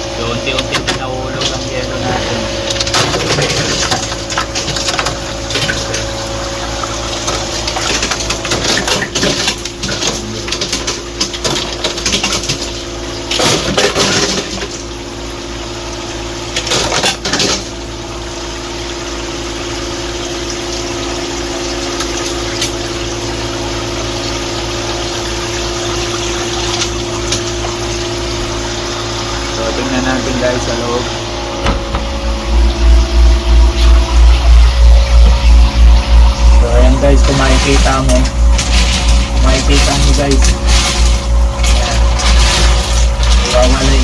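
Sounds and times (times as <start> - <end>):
ice machine humming: 0.0 - 44.0
water running: 0.0 - 44.0.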